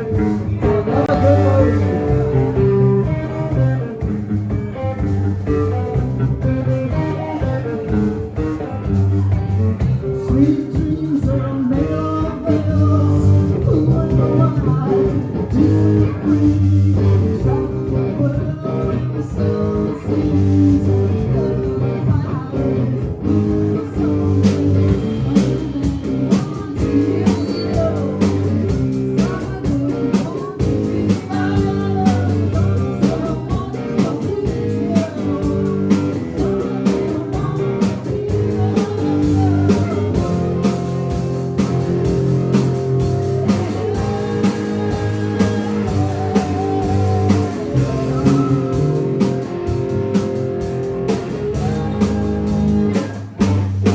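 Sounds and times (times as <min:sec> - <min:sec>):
bass line: 0:00.0 - 0:53.9
drums: 0:00.0 - 0:53.9
electric guitar lead melody: 0:00.0 - 0:53.9.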